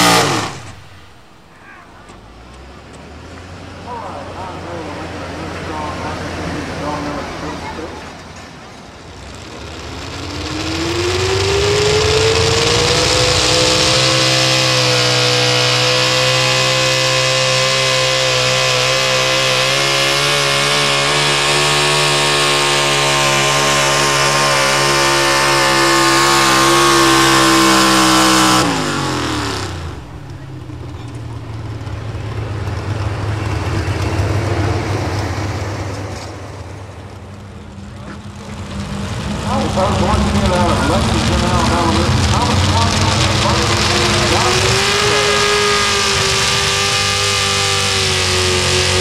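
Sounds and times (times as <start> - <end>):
pulling truck engine revving: 0.0 - 49.0.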